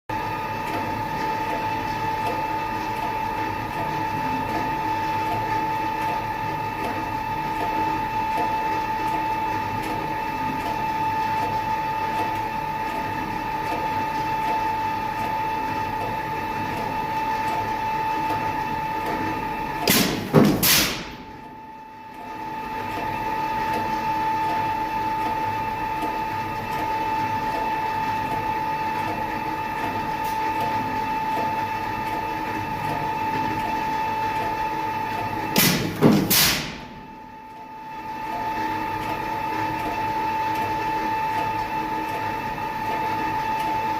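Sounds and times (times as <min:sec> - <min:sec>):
machine whine: 0:00.1 - 0:43.9.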